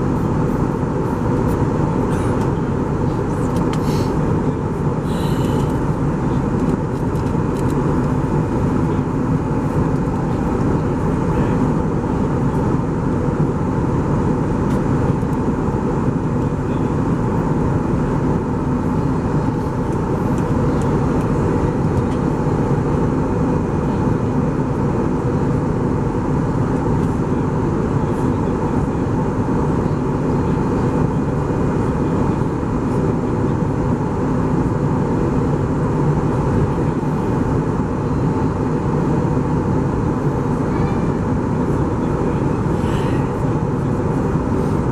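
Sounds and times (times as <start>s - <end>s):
airplane cabin engine and airflow noise: 0.0s - 44.9s.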